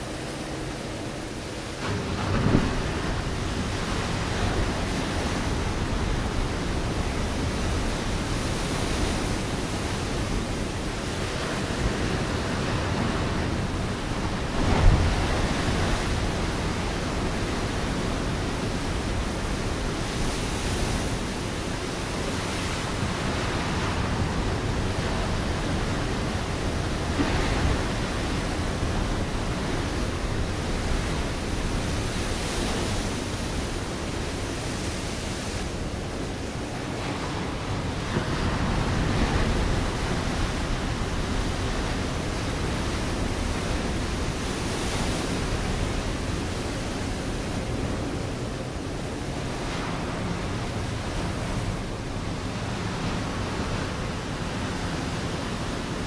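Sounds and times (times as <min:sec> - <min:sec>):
waves crashing on rocky shore: 0:00.0 - 0:56.0.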